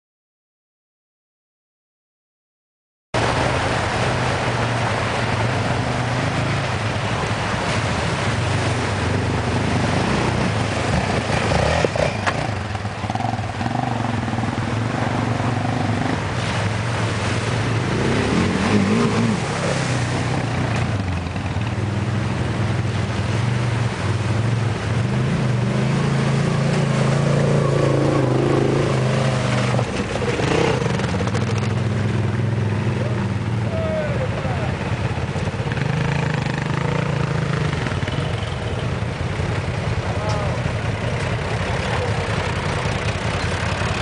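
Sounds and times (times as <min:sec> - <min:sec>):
river water rushing: 0:03.2 - 0:44.0
quad bike engines revving: 0:03.3 - 0:44.0.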